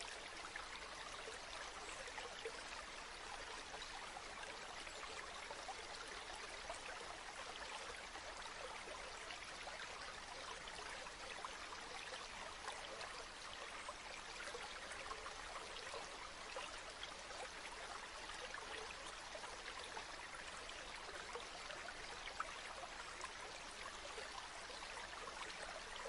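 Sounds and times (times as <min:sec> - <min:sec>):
river babbling: 0:00.0 - 0:26.0.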